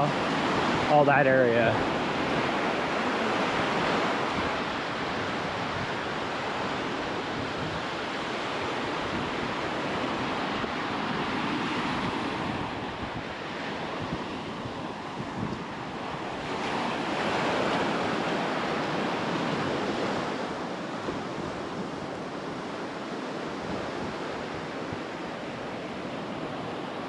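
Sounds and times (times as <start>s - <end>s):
surf washing onto beach: 0.0s - 27.0s
wind buffeting microphone: 0.0s - 27.0s.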